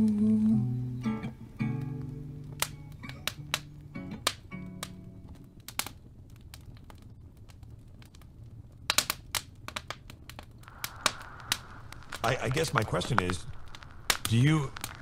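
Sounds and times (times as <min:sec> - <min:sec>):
sharp clicks and crackles: 0:01.9 - 0:15.0.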